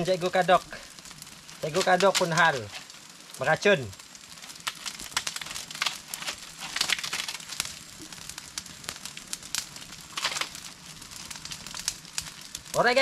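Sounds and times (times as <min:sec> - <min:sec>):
palm frond fire crackling: 0:00.0 - 0:13.0.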